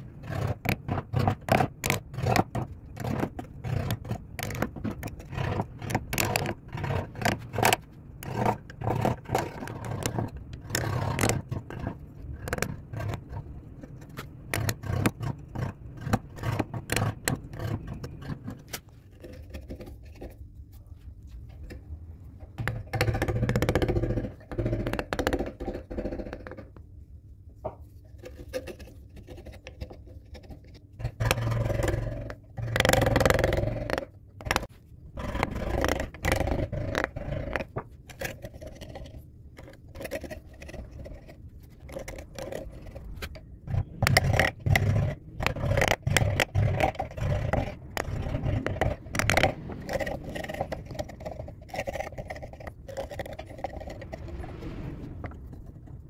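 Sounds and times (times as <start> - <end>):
gouge cutting and scraping wood: 0.0 - 20.4, 28.1 - 54.2.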